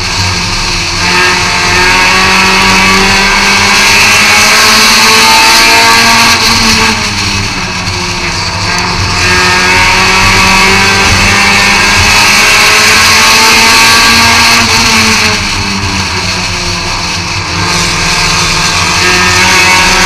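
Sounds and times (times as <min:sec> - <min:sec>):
race car engine at high revs: 0:00.0 - 0:20.0.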